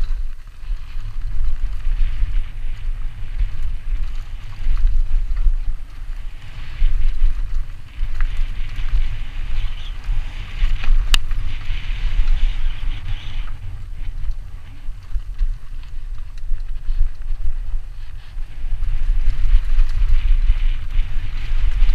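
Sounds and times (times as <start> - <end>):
bike rattling: 0.0 - 21.9
tyres rolling on dirt: 0.0 - 21.9
wind buffeting microphone: 0.0 - 21.9.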